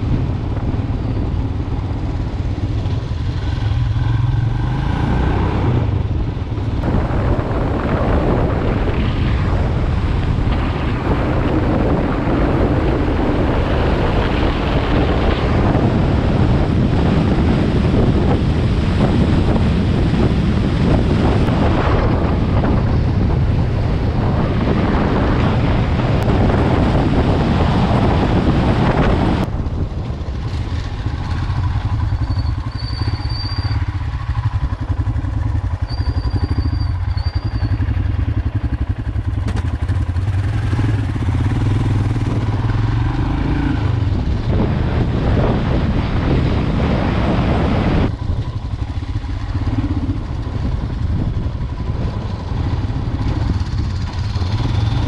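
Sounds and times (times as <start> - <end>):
motorcycle engine drone: 0.0 - 55.0
wind buffeting microphone: 0.0 - 55.0.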